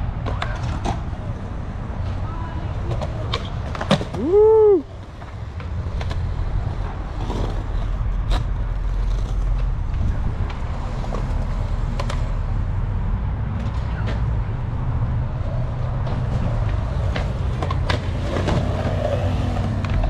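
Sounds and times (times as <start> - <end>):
skateboard wheels rolling on concrete: 0.0 - 20.0
skateboard clacking on concrete: 0.2 - 1.3, 2.0 - 12.7, 15.5 - 20.0.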